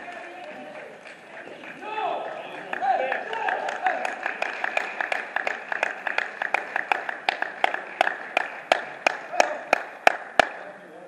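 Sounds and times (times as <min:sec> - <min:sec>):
sports hall murmur: 0:00.0 - 0:11.0.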